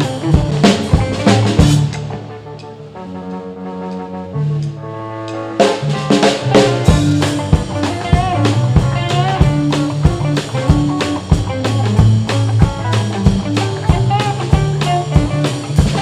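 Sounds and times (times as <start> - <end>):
drums on a driving beat: 0.0 - 3.0, 5.6 - 16.0
blues band playing: 0.0 - 16.0.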